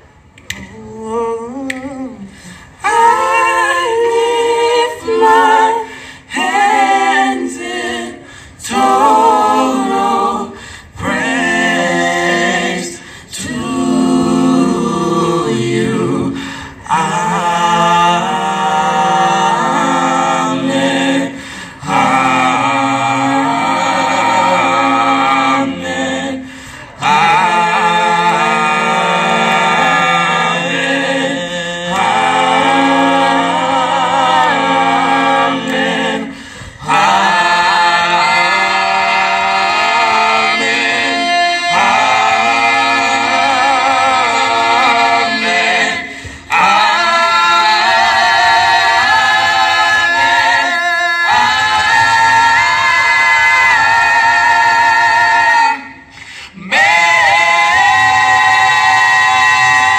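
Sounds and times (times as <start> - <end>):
a cappella group singing: 0.0 - 59.9.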